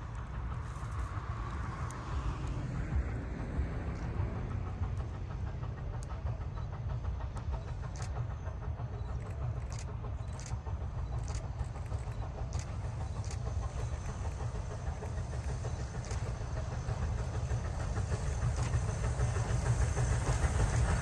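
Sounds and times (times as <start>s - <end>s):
train rumbling along track: 0.0s - 21.0s.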